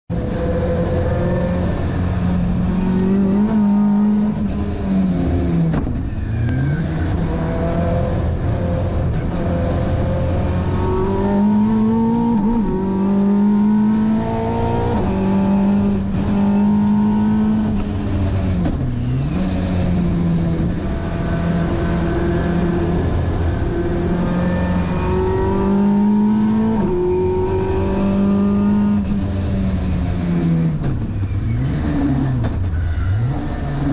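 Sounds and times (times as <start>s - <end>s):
car engine revving through gears: 0.1s - 33.9s.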